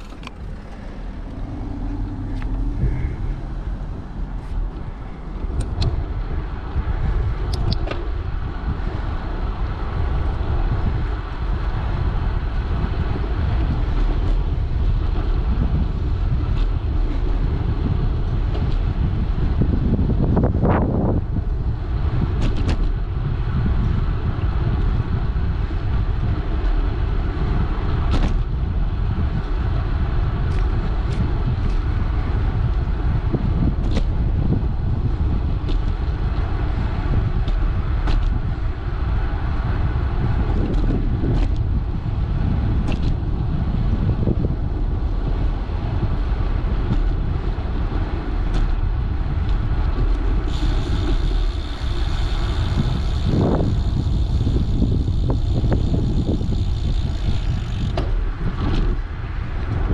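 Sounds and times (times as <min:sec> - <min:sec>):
tyre noise on asphalt: 0:00.0 - 0:59.9
wind rumbling on microphone: 0:00.0 - 0:59.9.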